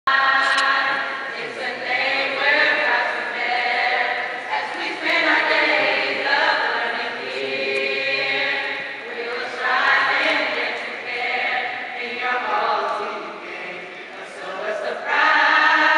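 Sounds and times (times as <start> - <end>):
choir singing long chords: 0.1 - 15.9.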